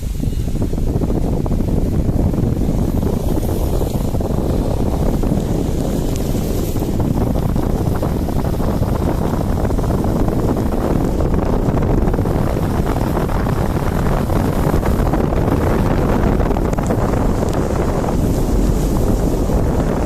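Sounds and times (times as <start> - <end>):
car rumbling on the move: 0.0 - 20.0
road noise: 0.0 - 20.0
wind buffeting the microphone: 0.0 - 20.0.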